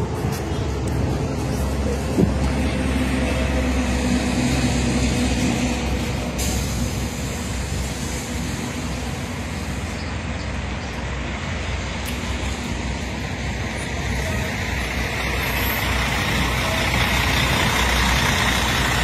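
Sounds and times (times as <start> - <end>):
bus diesel engine running: 0.0 - 19.0
highway traffic noise: 0.0 - 19.0.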